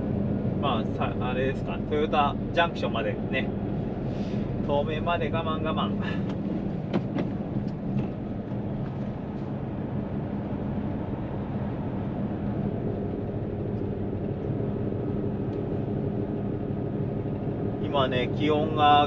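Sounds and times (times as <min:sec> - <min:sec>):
truck engine and road drone: 0:00.0 - 0:19.0.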